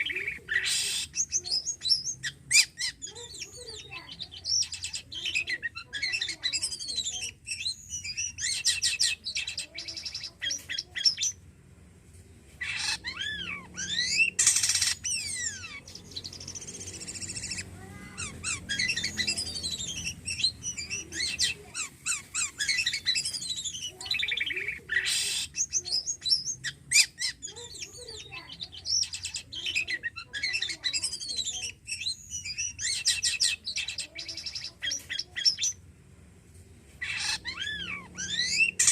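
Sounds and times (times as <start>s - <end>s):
starling singing: 0.0s - 11.4s, 12.6s - 35.8s, 37.0s - 38.9s.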